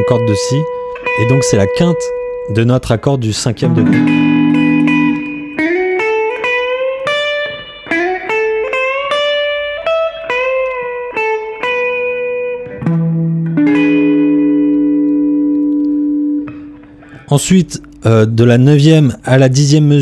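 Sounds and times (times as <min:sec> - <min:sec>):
electric guitar blues lick: 0:00.0 - 0:02.6, 0:03.6 - 0:18.0.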